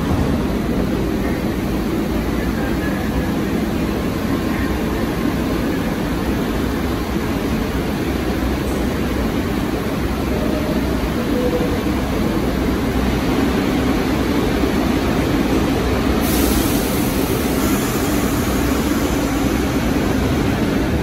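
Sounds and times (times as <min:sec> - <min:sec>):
subway train rumble and hum: 0:00.0 - 0:21.0.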